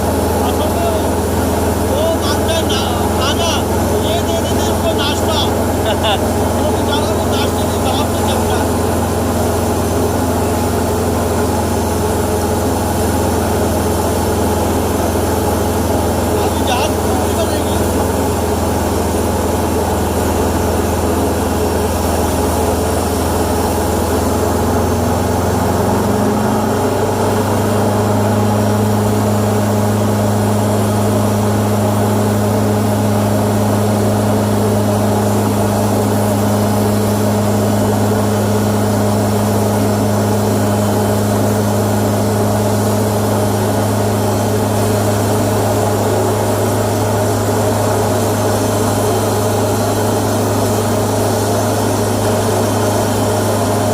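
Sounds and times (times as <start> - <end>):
tow tug engine running: 0.0 - 53.9.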